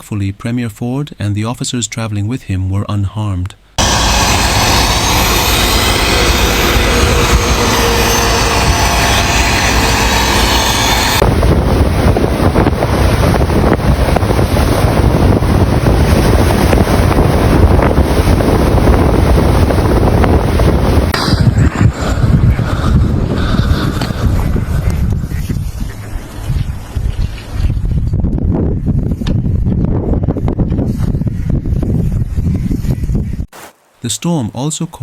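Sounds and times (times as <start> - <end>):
wind buffeting microphone: 3.8 - 33.5.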